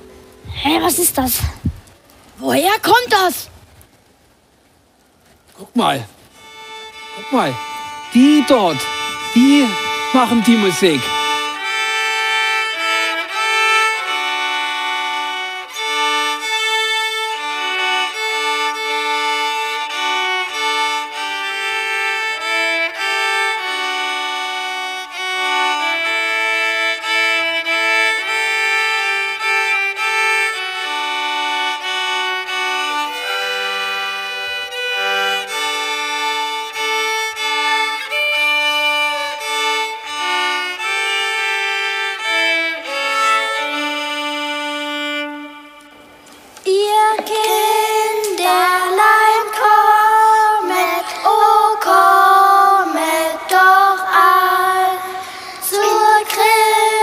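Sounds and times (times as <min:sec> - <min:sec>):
violin melody: 0:05.6 - 0:57.0.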